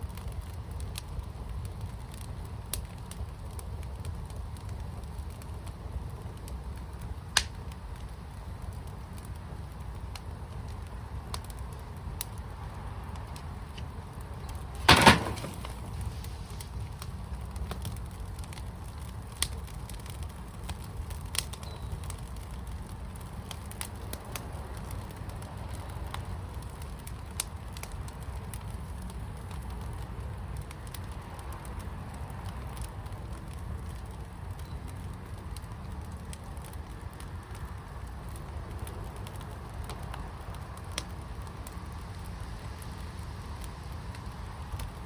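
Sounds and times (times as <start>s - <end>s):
wood fire crackling: 0.0s - 45.0s
sharp pops of fire: 0.1s - 42.2s.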